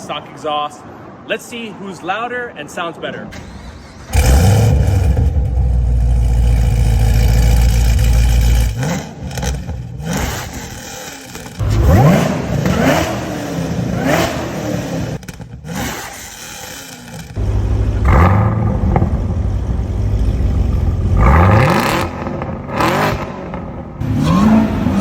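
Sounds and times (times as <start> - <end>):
car engine revving: 3.4 - 25.0.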